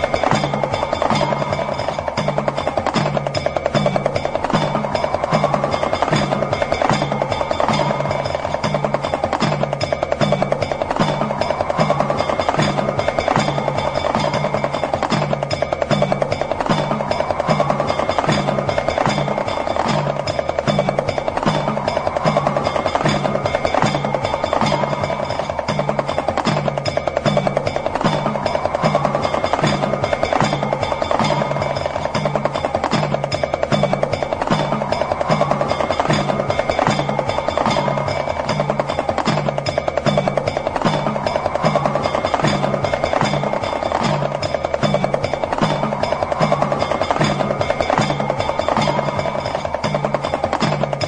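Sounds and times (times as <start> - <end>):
hand drum rattling fast: 0.0 - 51.0
held ringing tones: 0.0 - 51.0.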